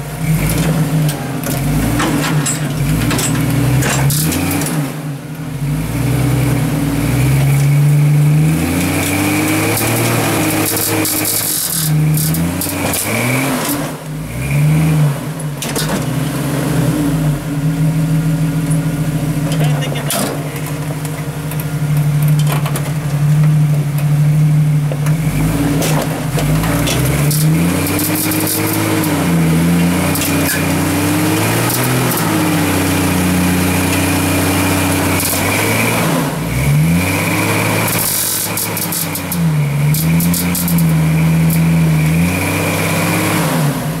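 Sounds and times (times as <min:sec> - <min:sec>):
buggy engine revving: 0:00.0 - 0:44.0
tyres and chassis scraping rock: 0:00.0 - 0:44.0.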